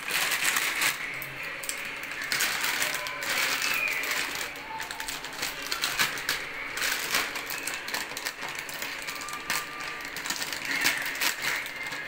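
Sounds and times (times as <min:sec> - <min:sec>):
plastic wrapper crinkling: 0:00.0 - 0:12.0
scissors snipping plastic packet: 0:00.0 - 0:12.0.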